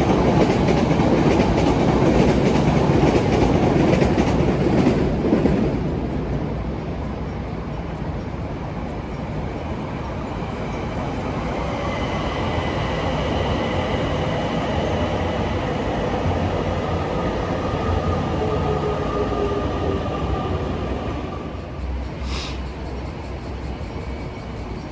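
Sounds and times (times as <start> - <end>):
train running rumble and hiss: 0.0 - 24.9
train whining tones: 0.0 - 24.9.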